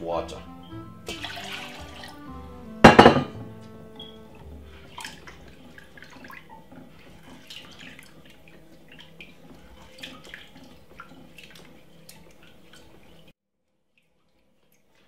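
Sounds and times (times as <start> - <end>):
rice washed by hand splashing: 0.2 - 2.8, 3.4 - 13.3.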